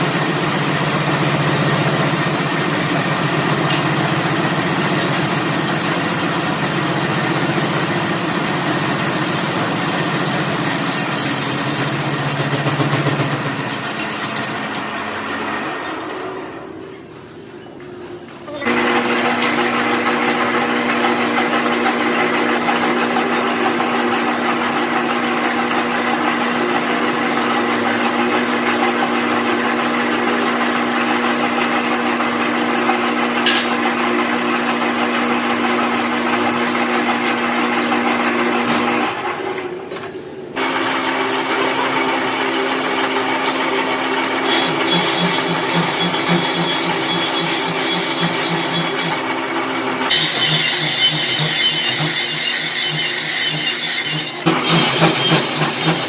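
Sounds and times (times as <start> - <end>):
workshop machine humming: 0.0 - 56.0.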